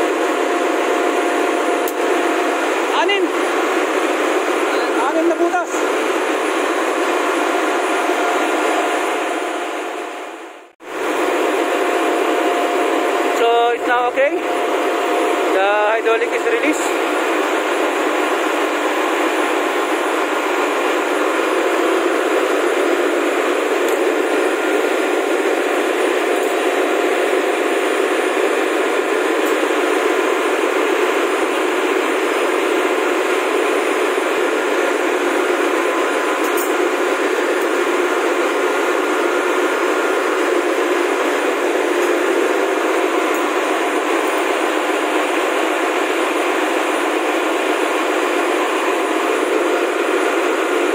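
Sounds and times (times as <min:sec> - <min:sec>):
engine room machinery din: 0:00.0 - 0:50.9.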